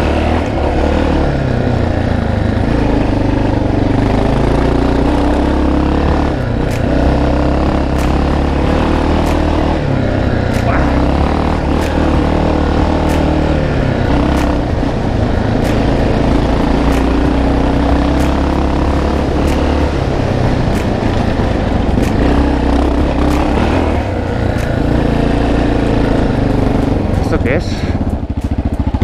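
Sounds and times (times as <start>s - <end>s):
motorcycle engine running: 0.0s - 29.0s
sharp ticking: 0.0s - 29.0s.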